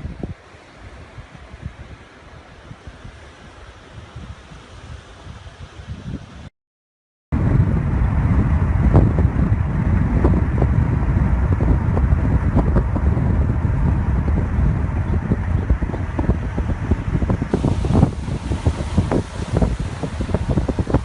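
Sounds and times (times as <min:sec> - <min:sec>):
wind buffeting microphone: 0:00.0 - 0:06.5, 0:07.3 - 0:21.0.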